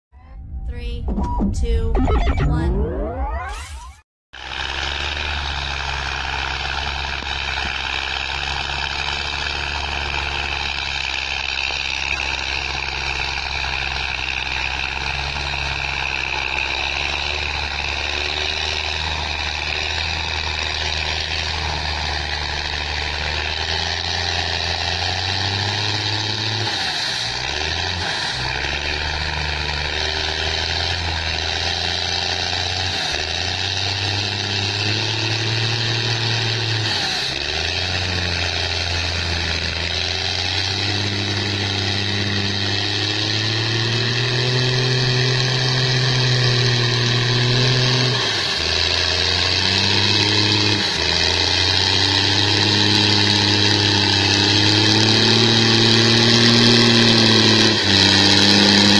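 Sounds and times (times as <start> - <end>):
tractor engine under load: 4.4 - 58.9.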